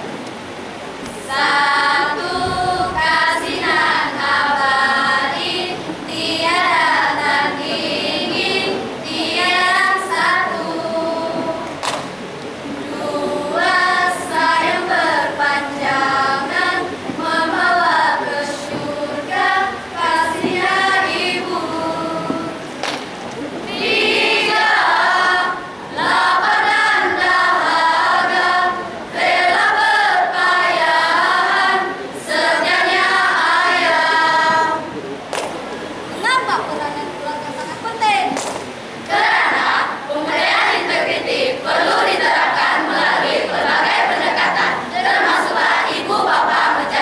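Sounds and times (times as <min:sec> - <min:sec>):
group chanting in unison: 0:01.2 - 0:11.8, 0:12.8 - 0:22.7, 0:23.7 - 0:34.9, 0:39.1 - 0:47.0.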